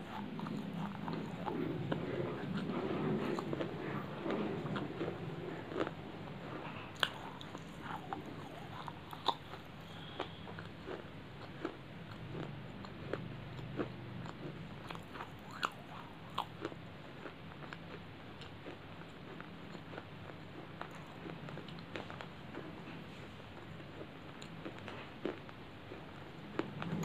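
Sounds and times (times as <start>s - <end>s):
chewing crunchy clay pieces: 0.0s - 27.0s
low steady hum: 0.0s - 27.0s.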